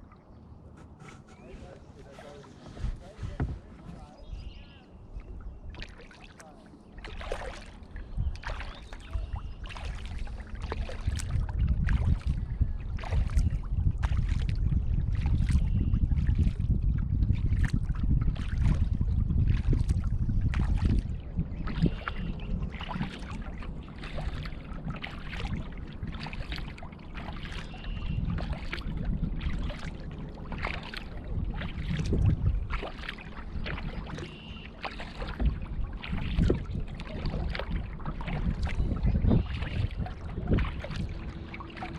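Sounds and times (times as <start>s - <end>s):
kayak paddle splashing: 0.0s - 41.9s
wind rumbling on microphone: 0.0s - 41.9s.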